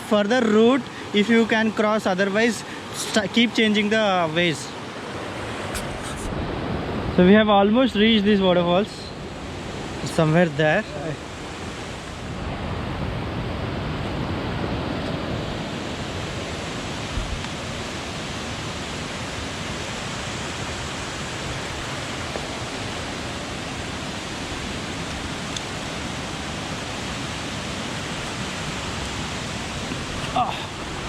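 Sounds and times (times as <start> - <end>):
waterfall and river roar: 0.0 - 31.0.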